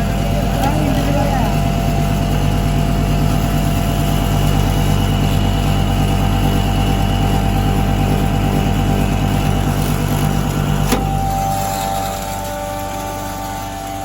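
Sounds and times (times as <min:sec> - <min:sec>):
grinding mill humming: 0:00.0 - 0:14.0.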